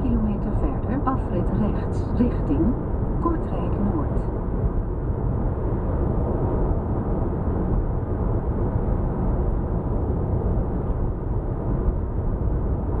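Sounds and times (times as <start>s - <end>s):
road noise inside car: 0.0s - 13.0s
wind noise: 0.0s - 13.0s.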